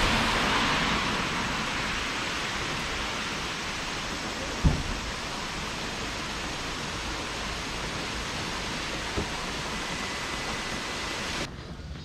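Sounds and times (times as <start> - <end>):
heavy rain pouring: 0.0 - 11.5.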